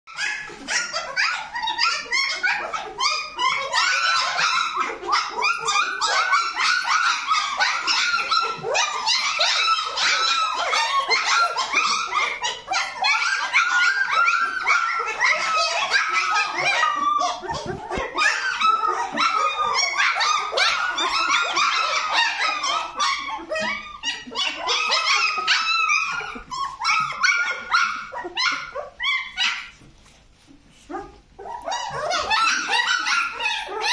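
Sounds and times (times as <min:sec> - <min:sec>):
puppies whining and yipping: 0:00.1 - 0:33.9.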